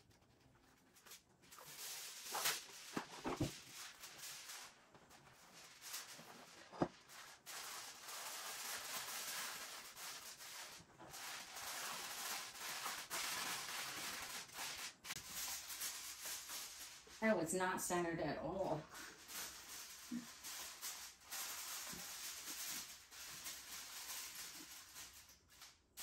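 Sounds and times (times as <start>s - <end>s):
aluminium foil crinkling: 0.0s - 17.3s, 18.4s - 26.0s.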